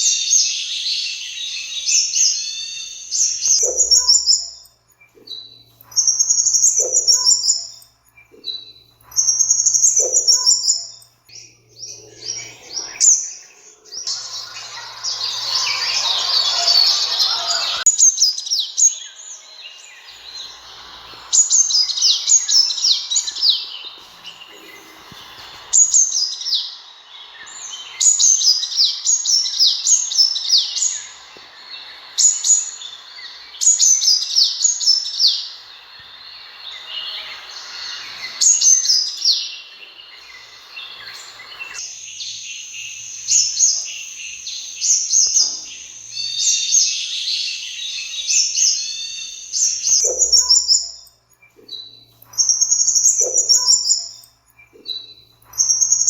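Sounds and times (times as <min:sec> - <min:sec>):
hissy noise: 0:00.0 - 0:04.6, 0:09.0 - 0:50.9
sunbird chirping: 0:00.0 - 0:56.0.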